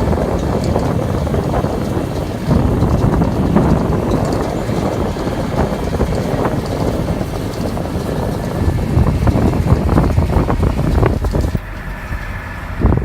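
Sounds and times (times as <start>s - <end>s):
tractor diesel engine running: 0.0s - 13.0s
wind buffeting microphone: 0.0s - 13.0s.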